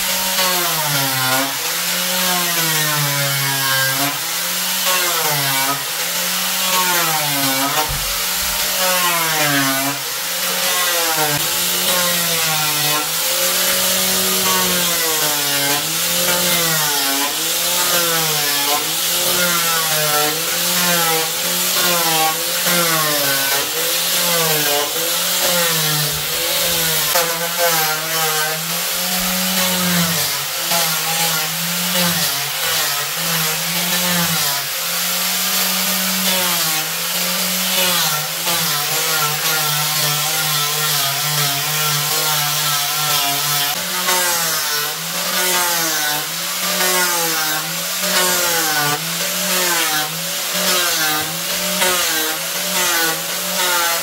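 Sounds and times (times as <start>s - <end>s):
power sander on wood: 0.0s - 54.0s.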